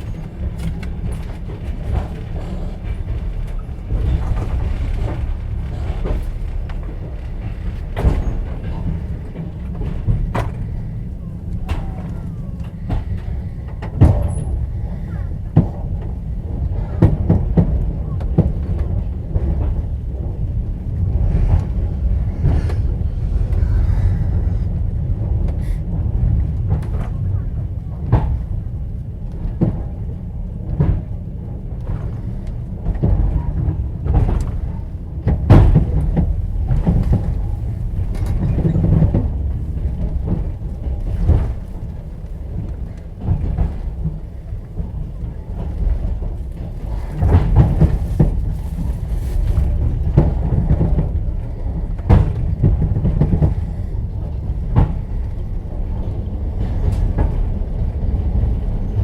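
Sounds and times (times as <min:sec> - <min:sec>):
train wheels rumbling: 0:00.0 - 0:59.0
wheels knocking and clacking on rails: 0:00.0 - 0:59.0.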